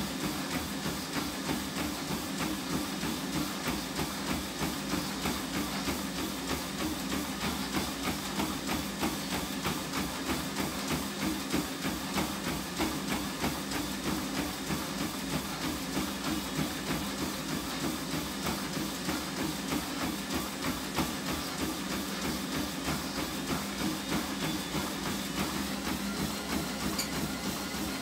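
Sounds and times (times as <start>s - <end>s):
footfalls on treadmill belt: 0.0s - 28.0s
treadmill motor hum: 0.0s - 28.0s.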